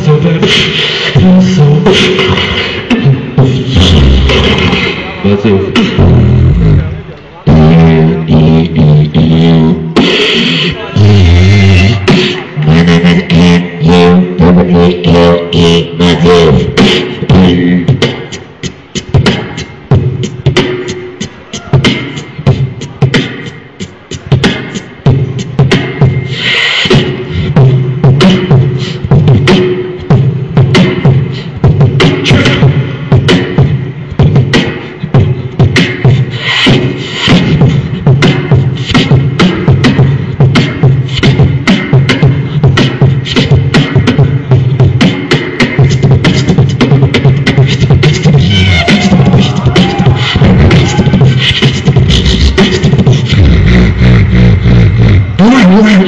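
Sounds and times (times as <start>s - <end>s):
beatboxing: 0.0s - 56.0s.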